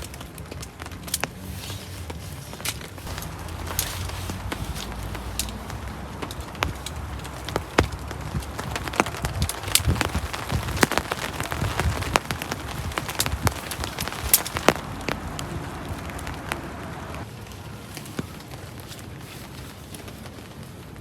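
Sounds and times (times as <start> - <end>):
rain hissing: 0.0 - 21.0
raindrops tapping a surface: 0.0 - 21.0.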